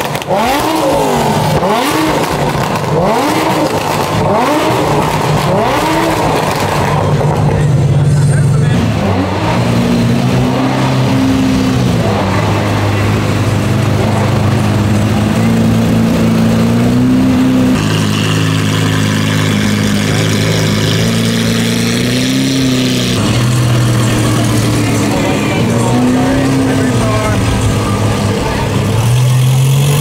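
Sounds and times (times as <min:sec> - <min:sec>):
sports car engine at low revs: 0:00.0 - 0:30.0.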